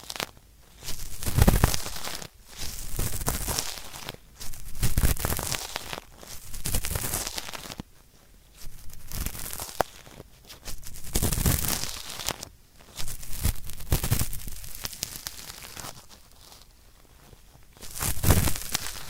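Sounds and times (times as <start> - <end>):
cotton swab scratching microphone: 0.8 - 7.8, 8.5 - 16.7, 17.8 - 19.0.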